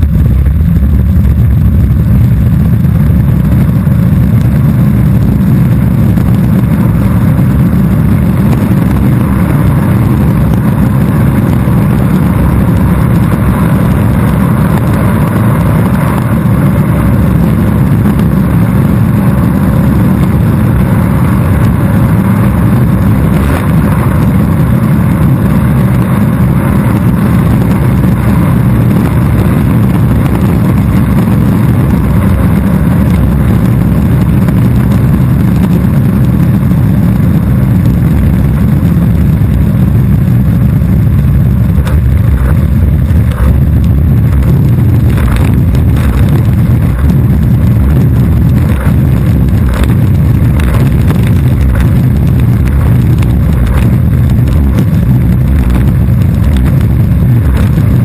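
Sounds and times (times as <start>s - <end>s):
wheels rolling on asphalt: 0.0s - 58.0s.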